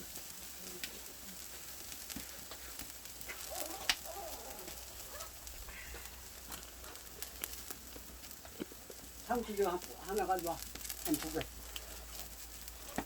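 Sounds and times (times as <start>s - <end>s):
meat sizzling over a fire: 0.0s - 13.0s
sharp crack: 0.6s - 13.0s.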